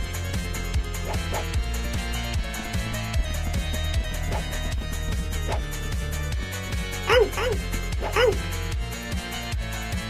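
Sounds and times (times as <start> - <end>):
music with bass-drum beat: 0.0 - 10.0.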